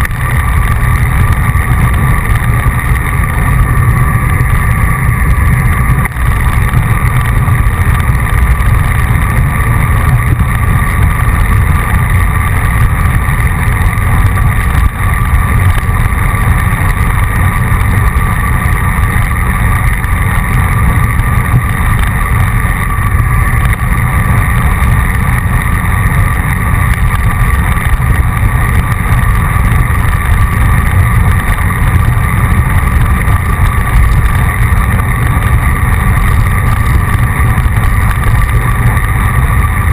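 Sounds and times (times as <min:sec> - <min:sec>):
low road rumble: 0:00.0 - 0:39.9
wind rush: 0:00.0 - 0:39.9.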